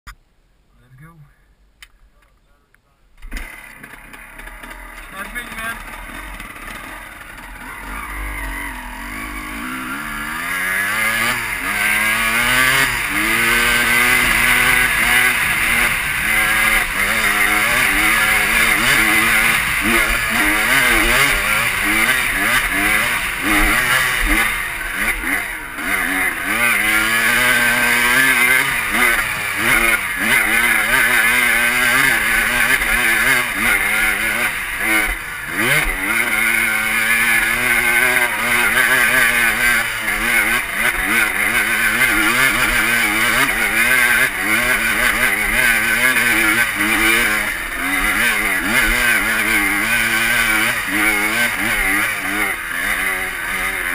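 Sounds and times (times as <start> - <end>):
dirt bike engine revving: 3.2 - 53.9.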